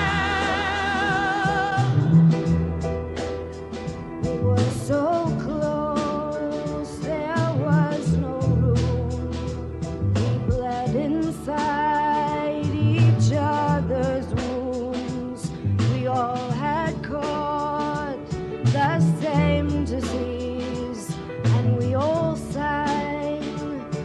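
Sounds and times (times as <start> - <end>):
person singing: 0.0 - 3.0, 4.2 - 24.0
bass guitar: 0.0 - 24.0
steady drum beat: 0.0 - 24.0.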